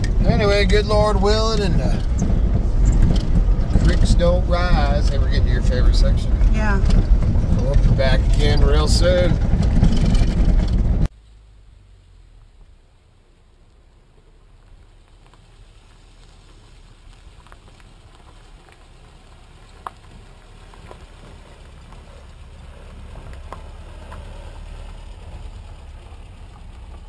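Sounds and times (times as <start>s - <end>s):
pickup truck engine: 0.0s - 27.0s
stones popping under tyres: 0.0s - 27.0s.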